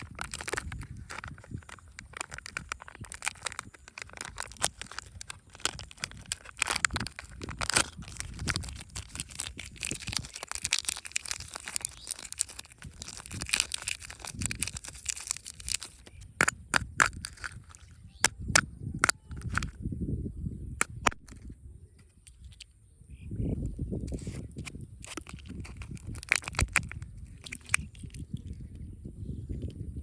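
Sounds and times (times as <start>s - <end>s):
packaging crinkling: 0.0s - 19.8s, 20.8s - 21.4s, 24.0s - 28.6s.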